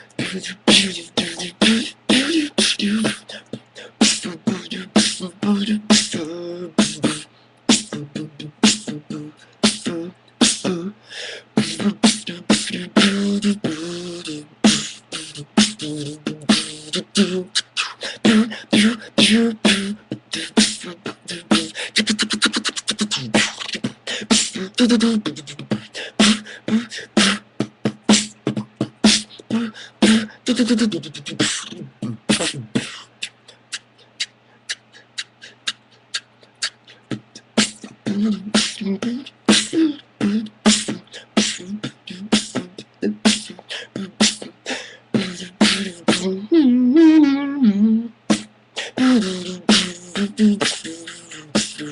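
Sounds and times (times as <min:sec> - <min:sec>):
vocal beatboxing: 0:00.0 - 0:51.9.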